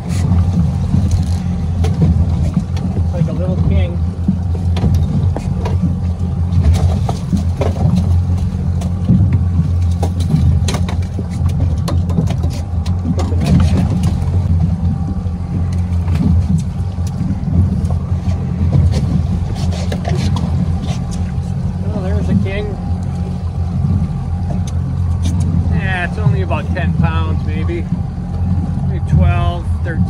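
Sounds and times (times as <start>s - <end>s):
outboard motor droning: 0.0s - 30.0s.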